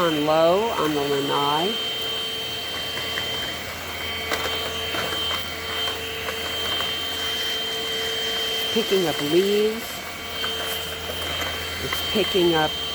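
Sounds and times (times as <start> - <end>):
stick vacuum motor whine: 0.0 - 12.9.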